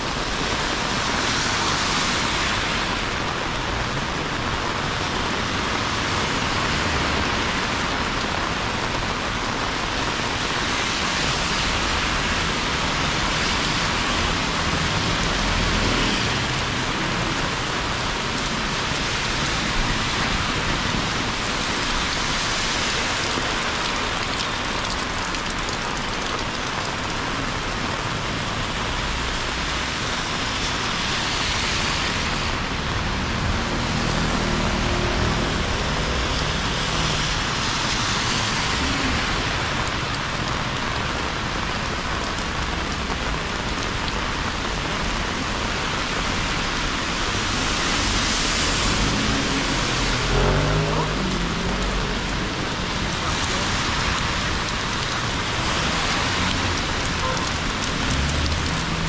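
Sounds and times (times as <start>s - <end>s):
heavy rain pouring on street: 0.0s - 59.0s.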